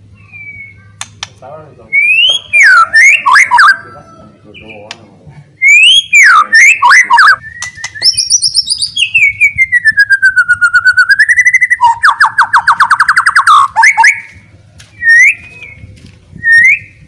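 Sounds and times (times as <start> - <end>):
songbird singing loudly: 0.0 - 1.1, 1.8 - 5.0, 5.6 - 17.0.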